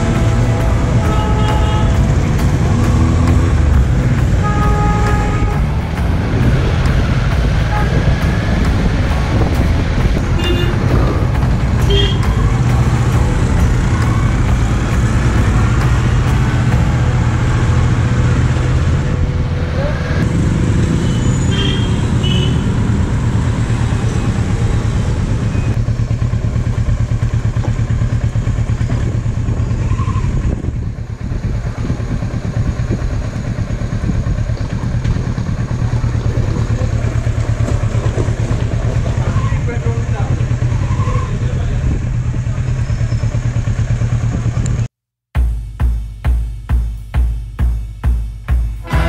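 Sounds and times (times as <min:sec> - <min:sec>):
motorcycle engine running: 0:00.0 - 0:49.0
road noise: 0:00.0 - 0:49.0.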